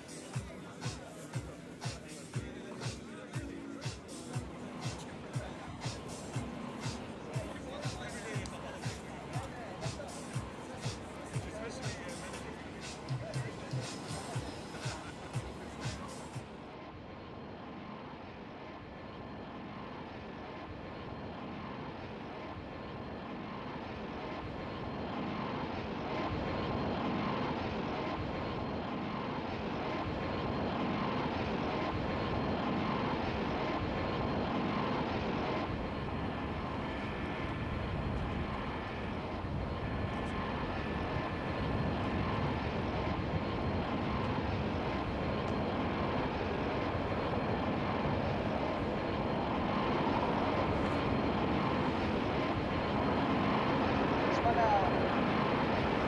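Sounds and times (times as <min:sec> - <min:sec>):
jet aircraft approaching: 0:00.0 - 0:56.0.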